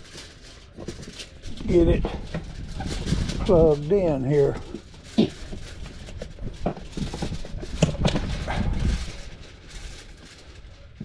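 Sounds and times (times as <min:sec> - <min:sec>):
wind rumble on microphone: 0:01.3 - 0:11.0.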